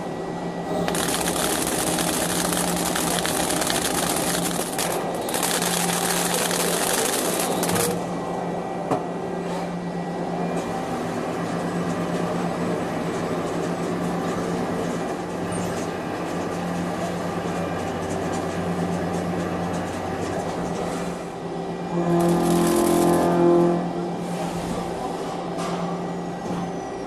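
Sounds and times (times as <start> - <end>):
machine humming and whining: 0.0 - 27.0.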